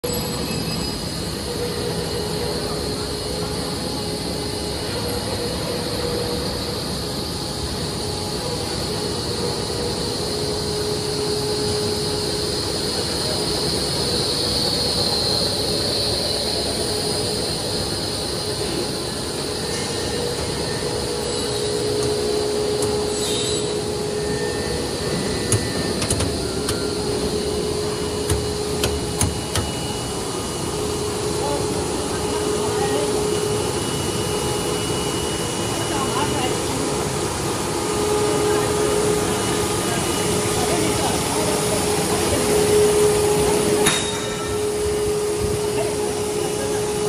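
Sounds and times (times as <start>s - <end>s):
machinery drone with whine: 0.0s - 47.0s.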